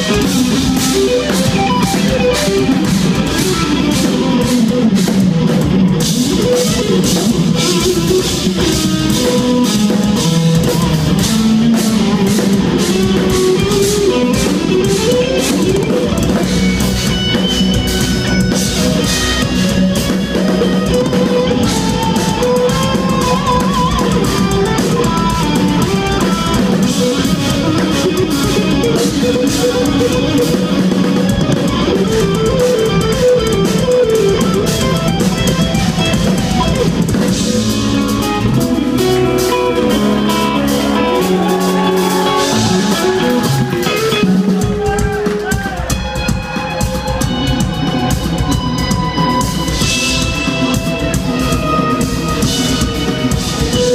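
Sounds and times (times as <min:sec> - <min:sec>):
busy drum kit: 0:00.0 - 0:53.9
electric guitar lines: 0:00.0 - 0:53.9.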